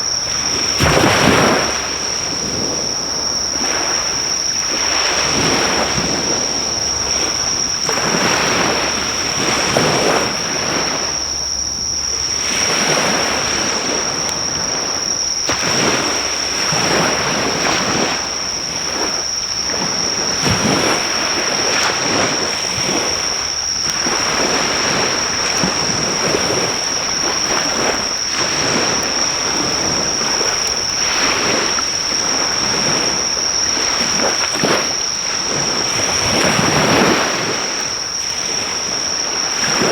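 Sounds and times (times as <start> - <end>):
high-pitched insect drone: 0.0 - 39.9
waves breaking on shore: 0.0 - 39.9.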